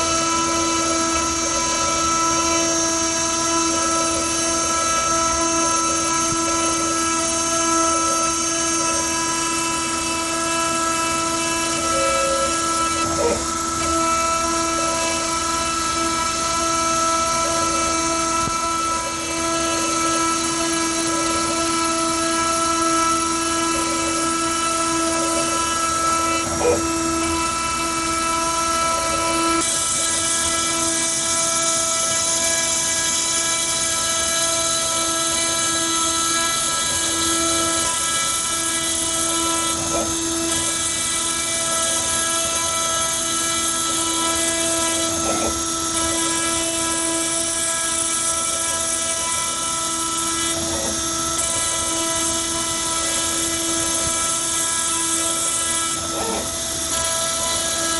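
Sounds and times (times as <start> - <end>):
spindle motor whining: 0.0 - 57.9.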